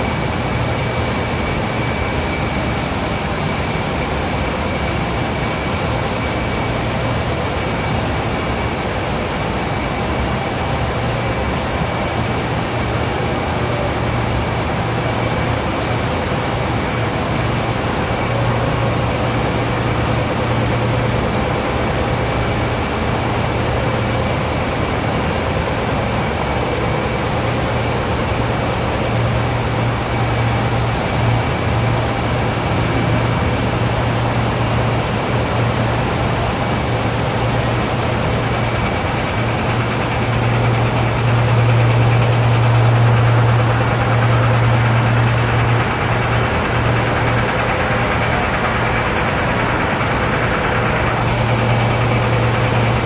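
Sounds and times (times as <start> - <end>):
production machinery droning: 0.0 - 53.0.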